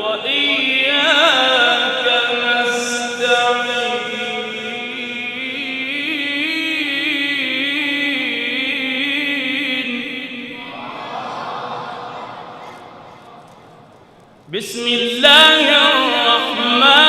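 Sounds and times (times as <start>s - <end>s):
man chanting melodically: 0.0s - 10.6s, 13.1s - 17.0s.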